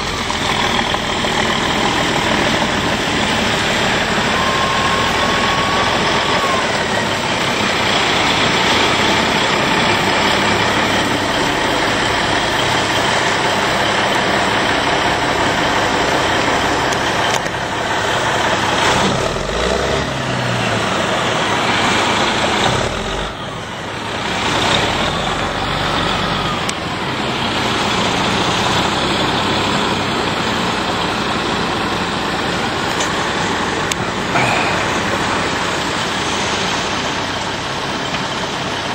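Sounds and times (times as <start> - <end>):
heavy truck engine running: 0.0 - 38.9.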